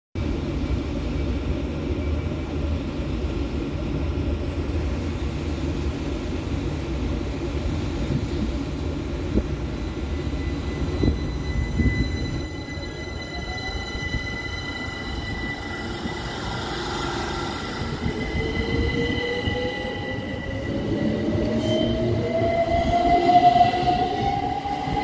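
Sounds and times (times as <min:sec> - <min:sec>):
train rumble and hum: 0:00.2 - 0:25.0.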